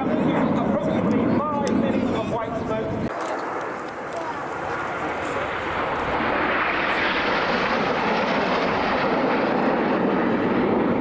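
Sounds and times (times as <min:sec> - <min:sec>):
jets flying past: 0:00.0 - 0:11.0.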